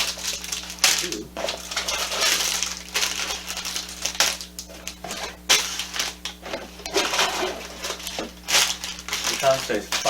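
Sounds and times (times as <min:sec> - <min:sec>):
plastic bags rustling: 0:00.0 - 0:10.0.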